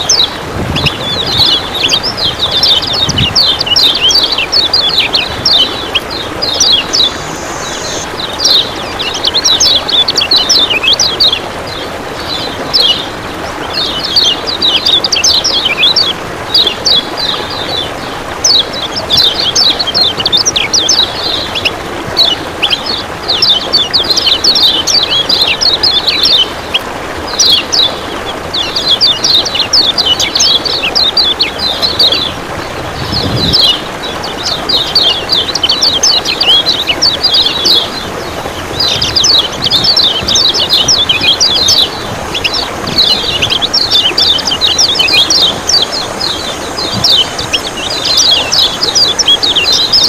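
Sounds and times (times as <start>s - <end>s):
running water rushing: 0.0s - 50.0s.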